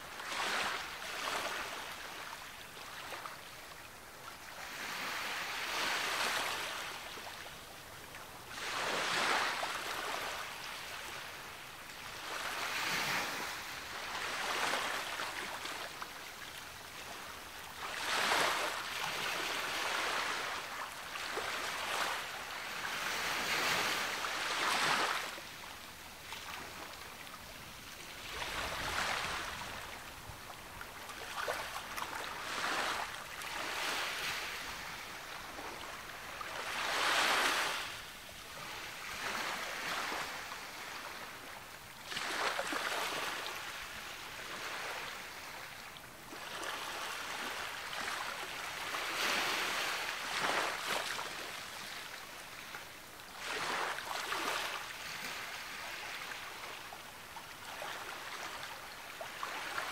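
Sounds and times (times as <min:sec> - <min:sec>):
sea waves breaking on a beach: 0:00.0 - 0:59.9.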